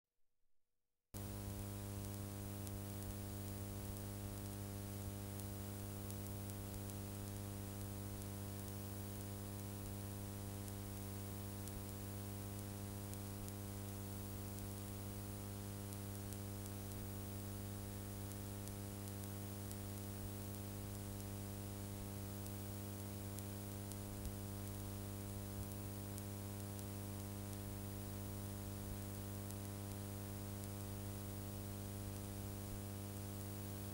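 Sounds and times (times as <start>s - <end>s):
electrical mains hum: 1.2s - 33.9s.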